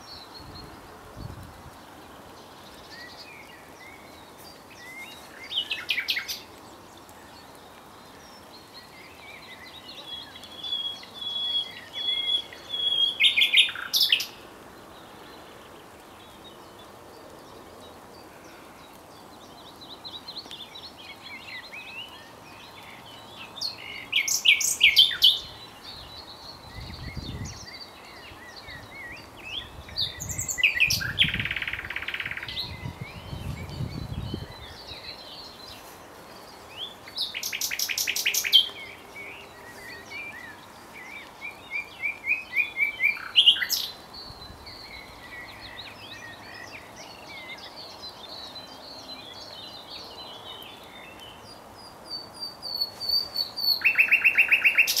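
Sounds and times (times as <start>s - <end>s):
nightingale singing: 2.4s - 16.9s, 19.3s - 55.0s.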